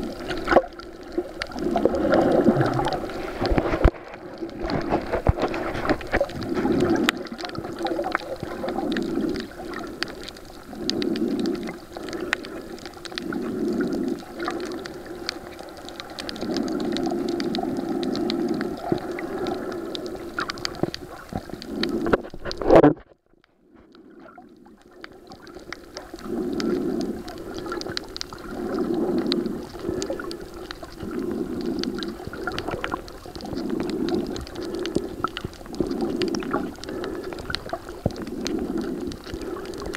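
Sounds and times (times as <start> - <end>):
breathing through a snorkel: 0.0 - 22.6, 24.7 - 39.9
fine crackling ticks: 0.0 - 39.9.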